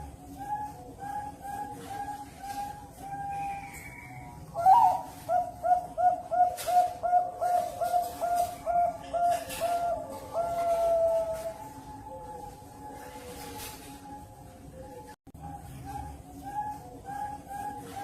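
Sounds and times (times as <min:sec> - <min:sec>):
zebra dove cooing: 0:00.0 - 0:18.0.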